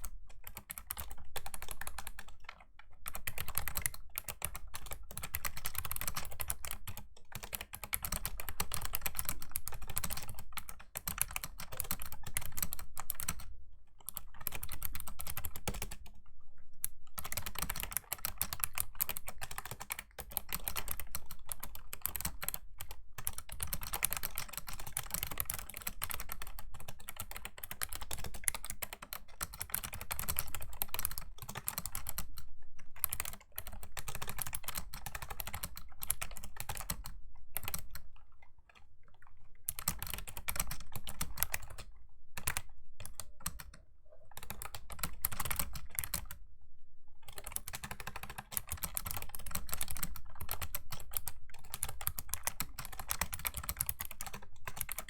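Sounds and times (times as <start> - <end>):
clicky keyboard typing: 0.0 - 16.2, 16.8 - 46.4, 47.3 - 55.0.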